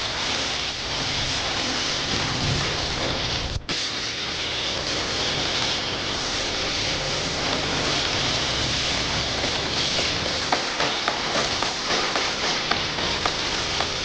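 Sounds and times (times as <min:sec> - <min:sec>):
pressure washer spraying water: 0:00.0 - 0:14.0.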